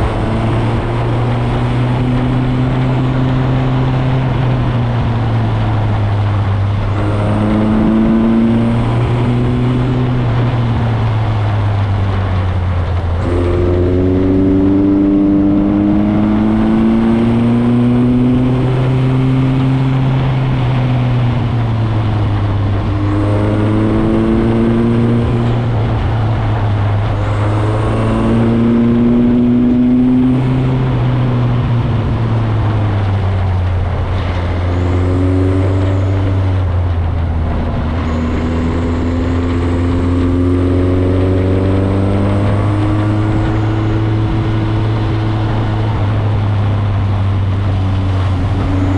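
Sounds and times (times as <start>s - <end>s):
motorcycle engine shifting gears: 0.0s - 48.9s
wind and road noise: 0.0s - 48.9s.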